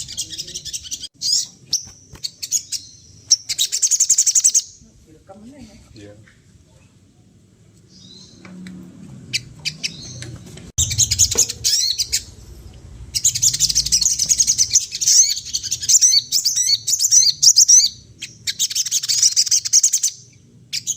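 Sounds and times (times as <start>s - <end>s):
songbird twittering chirps: 0.0s - 4.9s, 7.8s - 8.6s, 9.3s - 20.9s.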